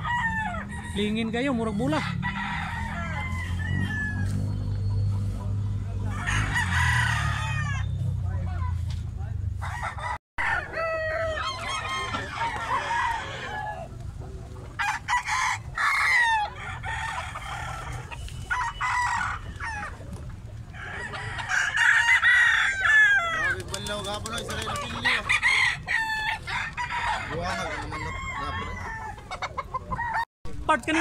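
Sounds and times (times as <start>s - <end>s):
roosters crowing: 0.0s - 8.7s, 9.4s - 31.0s
chickens clucking: 0.0s - 31.0s.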